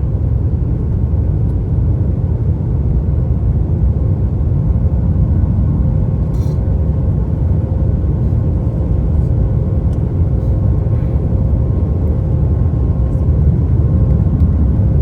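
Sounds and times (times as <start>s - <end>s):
faint steady hum: 0.0s - 15.0s
jet engines and rushing air: 0.0s - 15.0s.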